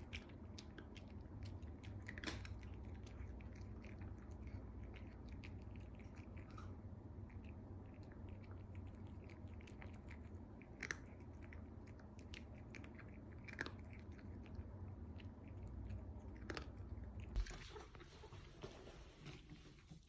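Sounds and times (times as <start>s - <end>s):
cat crunching food: 0.0s - 18.0s
low steady hum: 0.0s - 20.0s.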